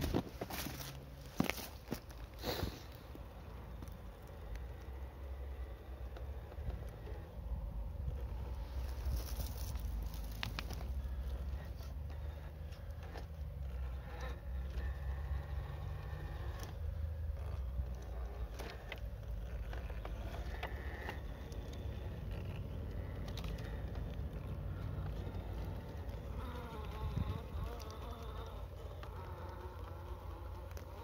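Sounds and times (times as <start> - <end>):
electric motor whining: 0.0 - 31.0.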